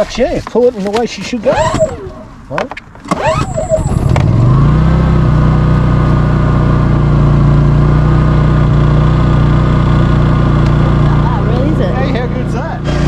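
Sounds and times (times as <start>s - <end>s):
generator engine running: 1.5s - 13.0s.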